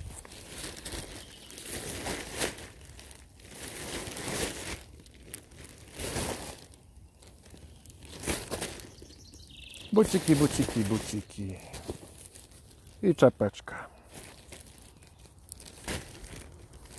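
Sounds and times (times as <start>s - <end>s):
plastic bag crinkling: 0.0s - 13.3s, 14.0s - 16.9s.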